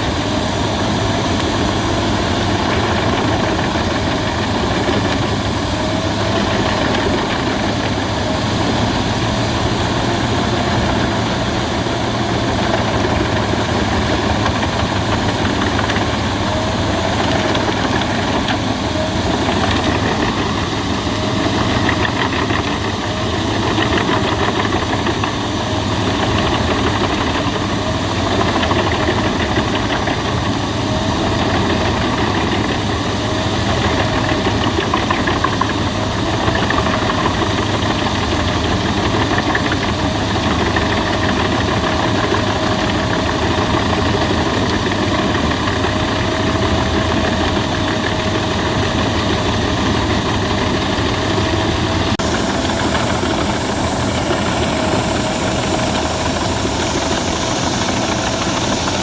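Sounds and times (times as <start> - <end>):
wood chipper engine drone: 0.0 - 59.0.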